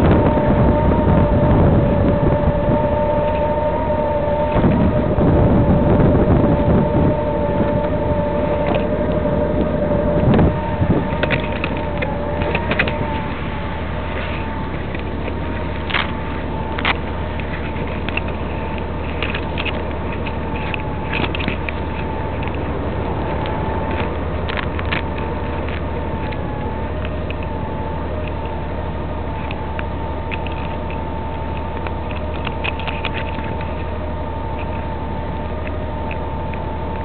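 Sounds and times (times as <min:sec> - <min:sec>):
faint steady whine: 0:00.0 - 0:37.0
wind and road noise: 0:00.0 - 0:37.0.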